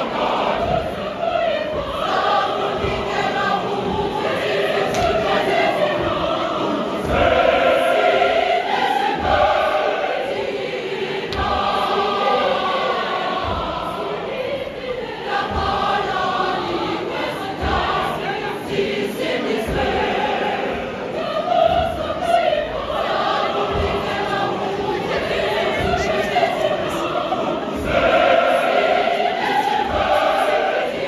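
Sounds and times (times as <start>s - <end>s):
church choir singing: 0.0s - 31.0s.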